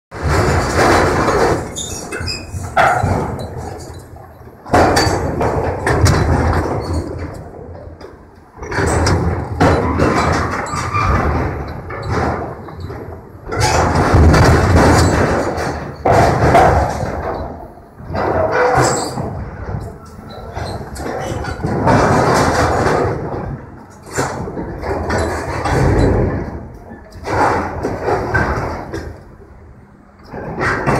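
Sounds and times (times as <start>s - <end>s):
metal crashing: 0.1s - 29.2s.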